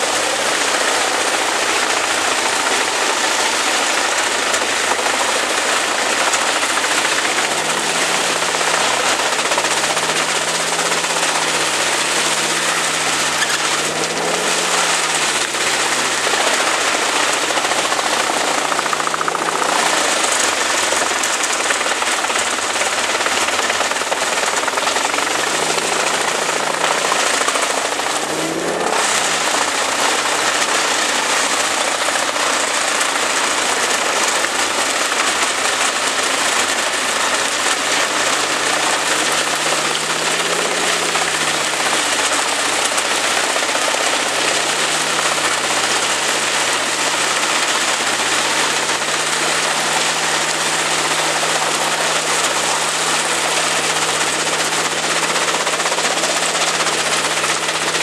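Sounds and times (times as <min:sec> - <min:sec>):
chipper engine drone: 0:00.0 - 0:58.0
wood chipper chipping branches: 0:00.0 - 0:58.0.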